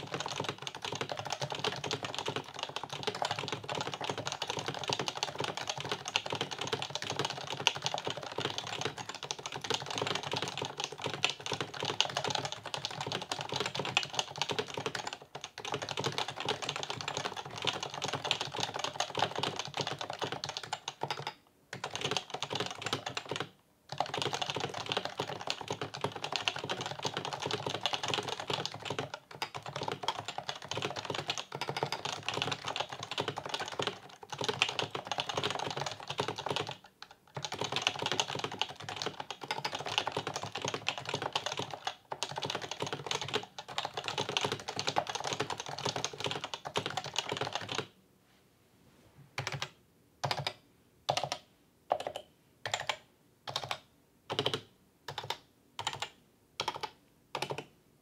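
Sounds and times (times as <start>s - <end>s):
keyboard typing: 0.0s - 47.9s, 49.4s - 57.7s.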